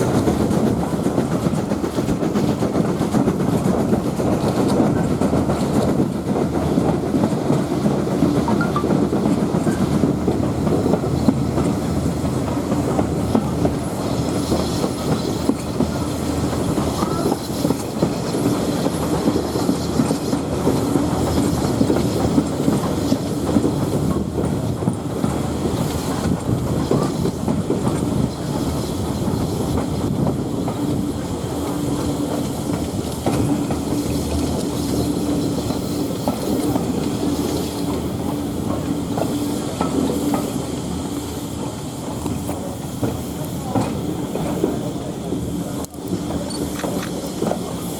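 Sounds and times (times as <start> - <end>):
rumble of train coaches: 0.0 - 47.9
wheels clicking over rail joints: 0.0 - 47.9.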